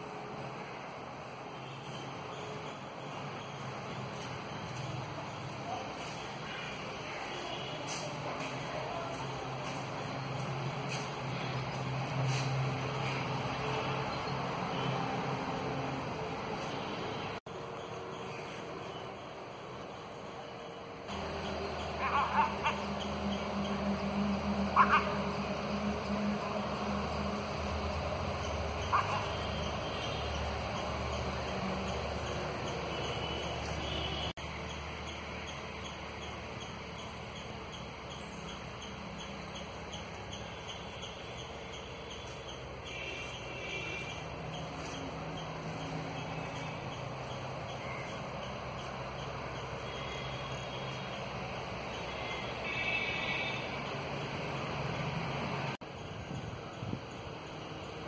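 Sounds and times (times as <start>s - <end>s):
birds calling: 1.6s - 58.0s.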